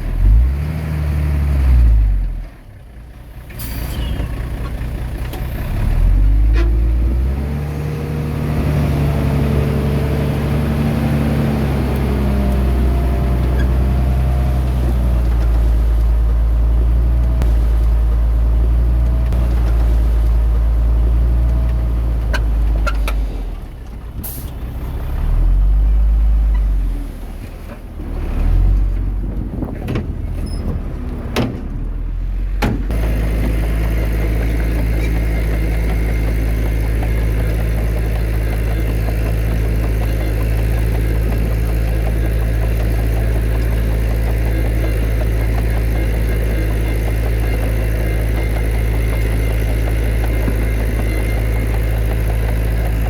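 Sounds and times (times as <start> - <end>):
heavy diesel engine: 0.0 - 53.0.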